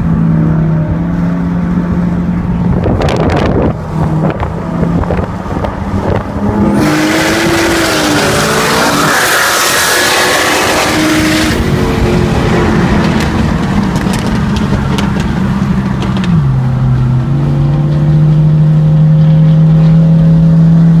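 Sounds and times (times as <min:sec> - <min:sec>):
wind noise: 0:01.5 - 0:18.6.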